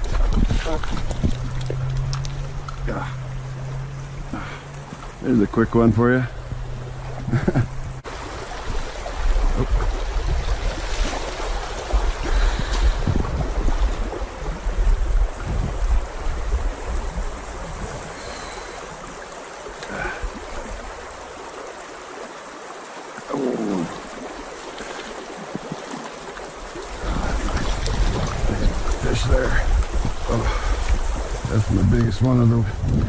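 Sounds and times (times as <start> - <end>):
stream rushing and trickling: 0.0 - 33.0.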